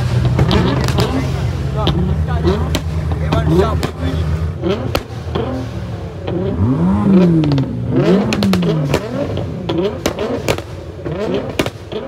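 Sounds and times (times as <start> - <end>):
car engine revving: 0.0 - 12.0
exhaust pops and crackles: 0.0 - 12.0.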